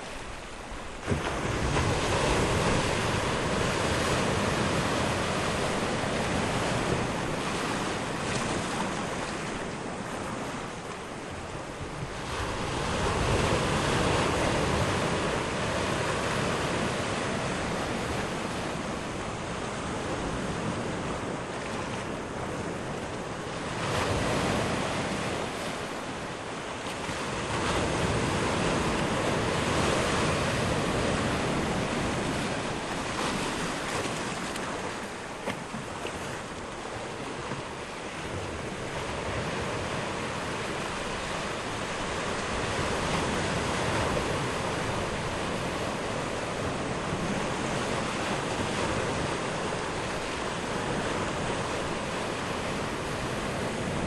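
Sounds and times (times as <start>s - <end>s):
small waves washing onto shore: 0.0s - 54.0s.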